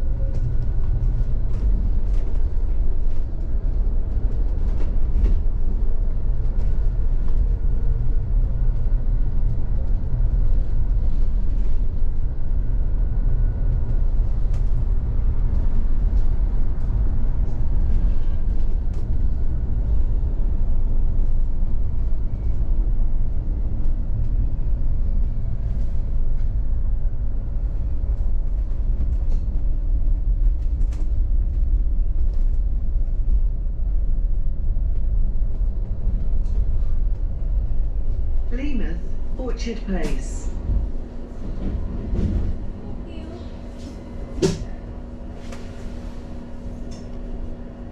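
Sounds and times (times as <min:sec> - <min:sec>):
low rumble of city noise: 0:00.0 - 0:47.9.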